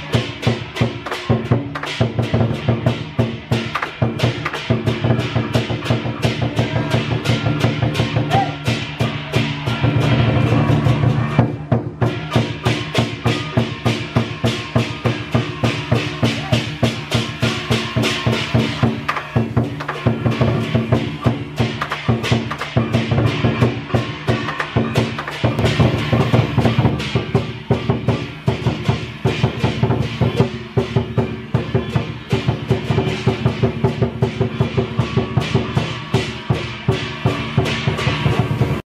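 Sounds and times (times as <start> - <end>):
cymbals clashing: 0.0 - 38.8
large drum beating: 0.0 - 38.8.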